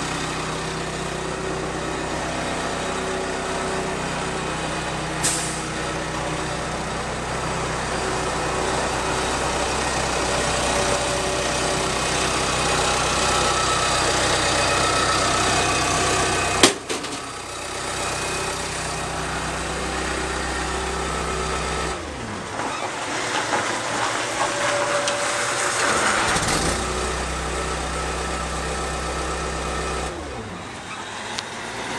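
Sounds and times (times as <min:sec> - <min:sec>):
diesel bulldozer engine running: 0:00.0 - 0:31.9.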